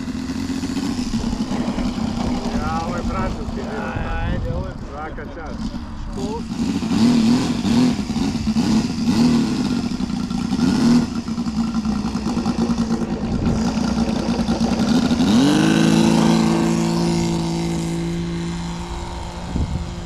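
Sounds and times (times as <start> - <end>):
model aeroplane engine revving: 0.0 - 20.0.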